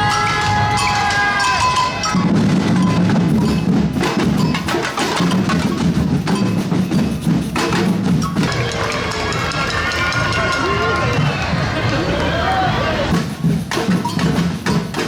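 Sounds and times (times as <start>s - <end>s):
wood-block strikes: 0.0s - 11.4s, 13.1s - 15.0s
percussion band playing: 0.0s - 15.0s.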